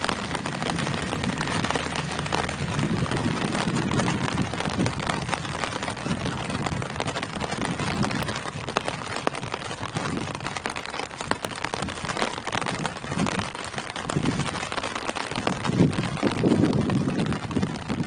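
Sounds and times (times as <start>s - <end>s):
rain on tree leaves: 0.0s - 18.0s.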